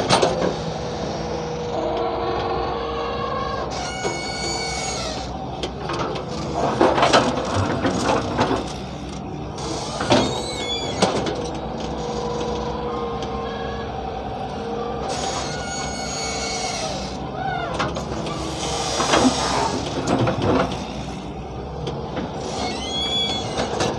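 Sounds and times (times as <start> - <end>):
excavator engine running: 0.0 - 23.9
steady whining tone: 0.0 - 23.9.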